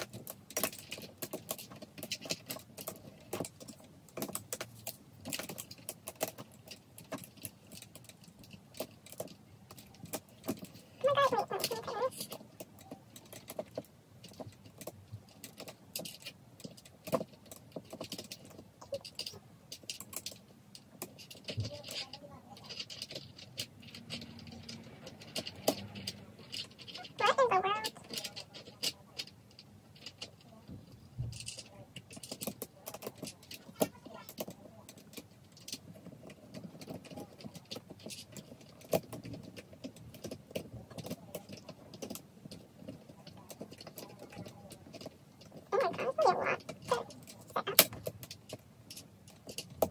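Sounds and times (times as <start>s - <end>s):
plastic and metal parts clicking: 0.0s - 49.9s.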